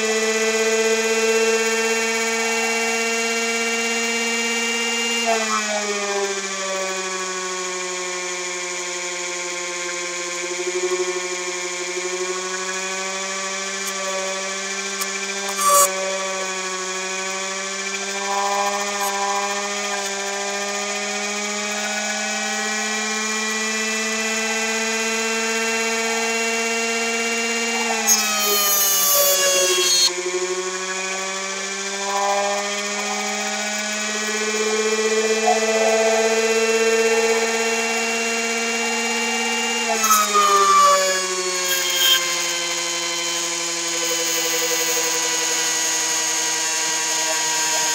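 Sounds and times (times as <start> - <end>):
motor generator whine: 0.0 - 47.9.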